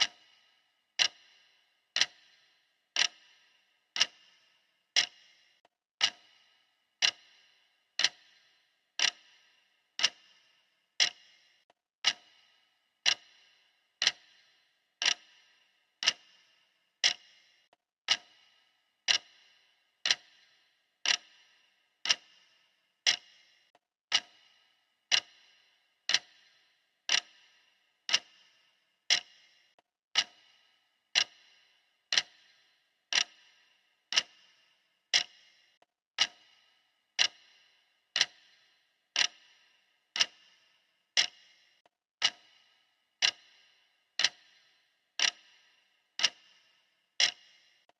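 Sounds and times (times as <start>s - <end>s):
clock ticking: 0.0s - 47.9s.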